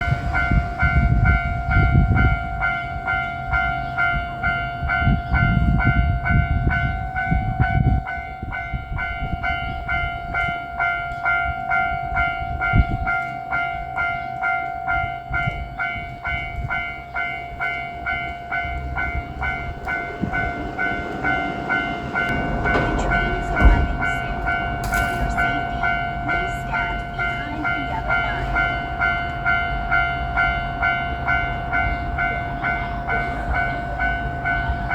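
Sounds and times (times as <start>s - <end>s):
freight train rumble: 0.0s - 34.9s.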